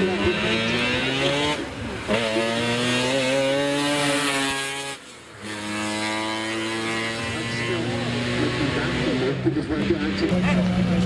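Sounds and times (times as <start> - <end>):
racing car engine revving: 0.0 - 11.0.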